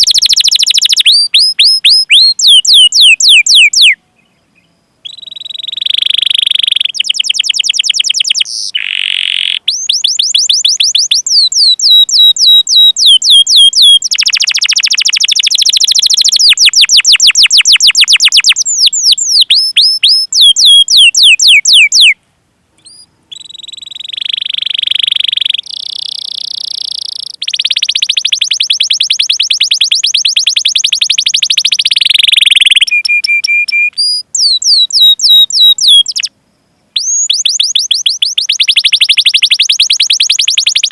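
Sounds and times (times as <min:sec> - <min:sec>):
canary singing: 0:00.0 - 0:22.2, 0:22.8 - 0:36.3, 0:37.0 - 0:40.9.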